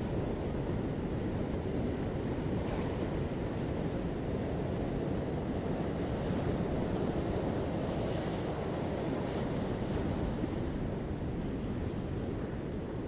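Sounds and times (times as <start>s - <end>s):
waves washing onto beach: 0.0s - 13.0s.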